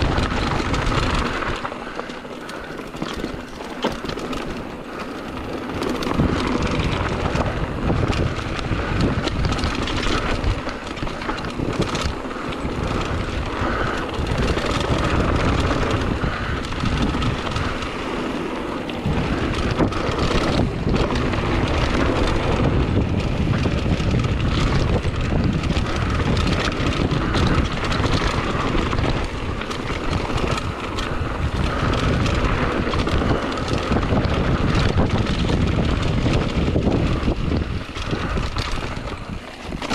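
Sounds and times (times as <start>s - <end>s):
bike knocks and rattles: 0.0s - 39.9s
bike tyres on dirt: 0.0s - 39.9s
wind on microphone: 0.0s - 39.9s.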